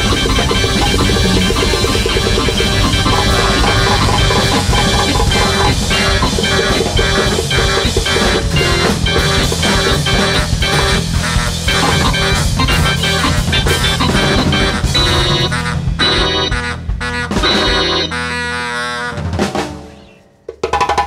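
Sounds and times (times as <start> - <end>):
guitar: 0.0 - 18.6
big band playing jazz: 0.0 - 20.1
drums: 0.0 - 21.0.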